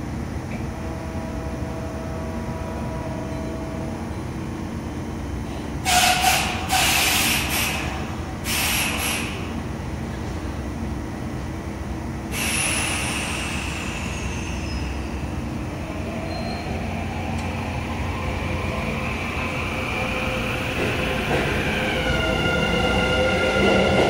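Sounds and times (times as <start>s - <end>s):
electric train inverter whine: 0.0s - 24.0s.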